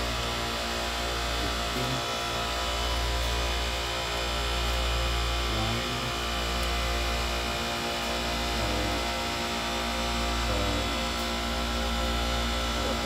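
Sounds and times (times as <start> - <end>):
refrigeration machine hum with tones: 0.0 - 13.0.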